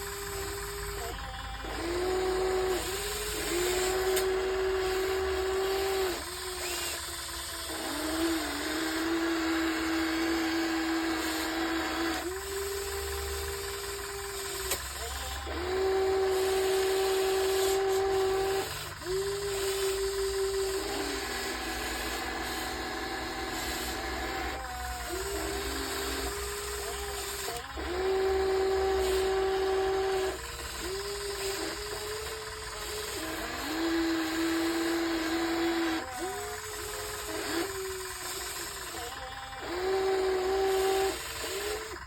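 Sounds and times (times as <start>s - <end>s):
electric motor whining: 0.0s - 42.0s.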